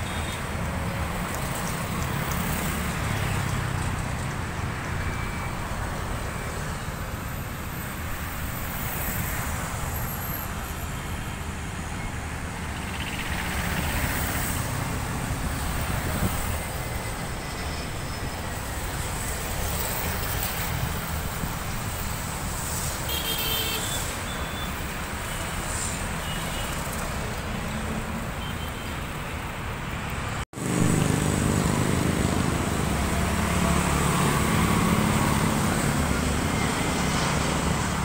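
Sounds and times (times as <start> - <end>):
cars and motorbikes passing: 0.0 - 38.0.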